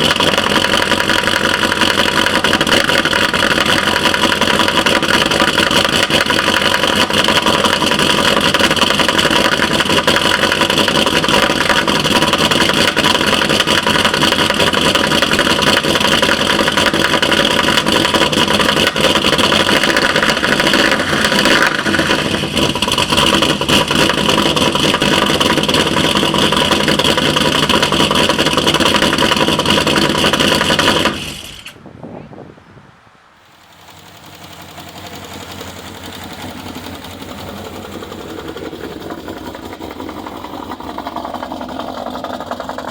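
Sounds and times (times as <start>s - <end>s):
steady engine ticking: 0.0s - 31.8s, 33.5s - 42.9s
car engine running: 0.0s - 32.3s, 33.4s - 42.9s.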